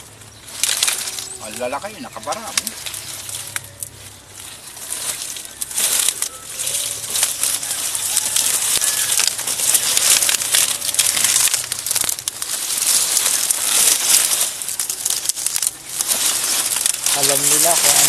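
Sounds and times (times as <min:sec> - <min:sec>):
leaves rustling and snapping: 0:00.0 - 0:18.0.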